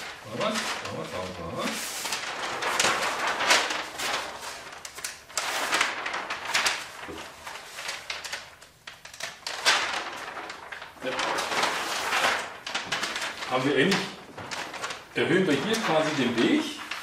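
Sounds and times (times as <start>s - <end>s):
paper sheets rustling and crackling: 0.0s - 17.0s.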